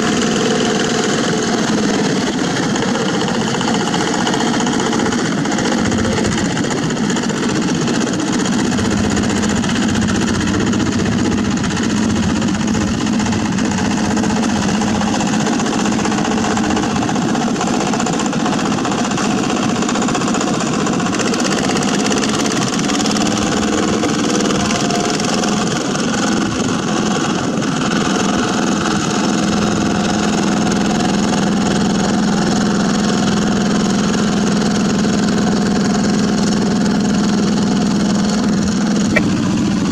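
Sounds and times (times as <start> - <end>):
small diesel engine chugging: 0.0 - 39.9.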